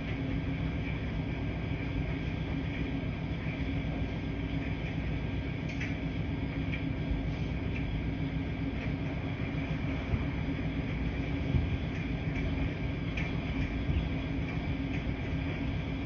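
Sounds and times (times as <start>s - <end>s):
washing machine rumbling: 0.0s - 16.0s.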